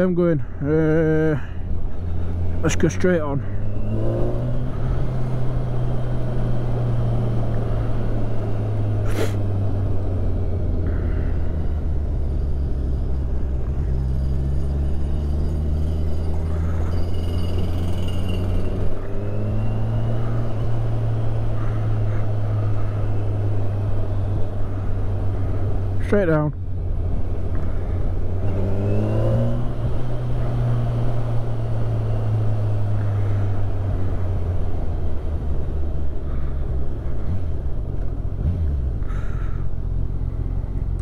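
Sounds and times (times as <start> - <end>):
road and air noise: 0.0 - 41.0.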